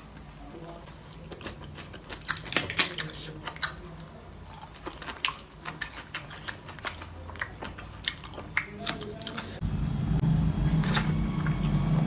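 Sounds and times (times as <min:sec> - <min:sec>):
crunchy chewing: 0:00.0 - 0:09.7, 0:10.6 - 0:12.0.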